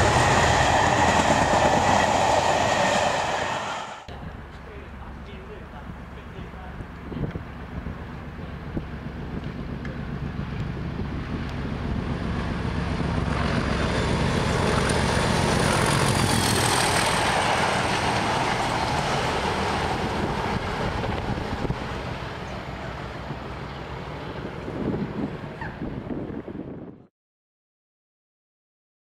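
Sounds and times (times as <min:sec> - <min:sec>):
diesel locomotive engine: 0:00.0 - 0:27.0.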